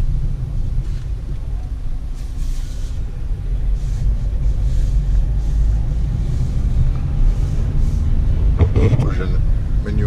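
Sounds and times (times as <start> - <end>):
van engine and road rumble: 0.0 - 10.0.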